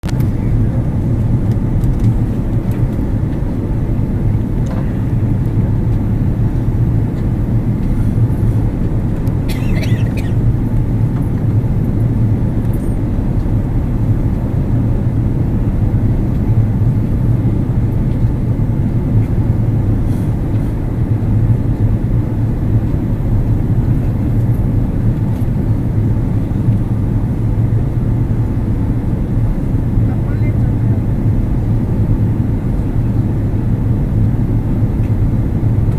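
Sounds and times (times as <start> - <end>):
airliner cabin engine roar: 0.0 - 35.9.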